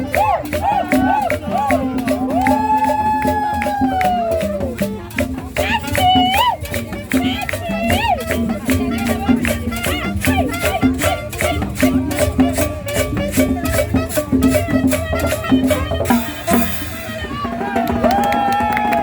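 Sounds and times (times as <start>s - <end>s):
tropical dance music: 0.0s - 19.0s.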